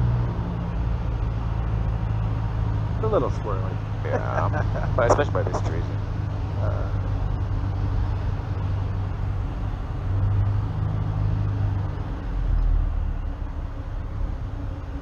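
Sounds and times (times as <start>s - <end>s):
propeller plane engine drone: 0.0s - 15.0s
wind and cabin noise: 0.6s - 15.0s.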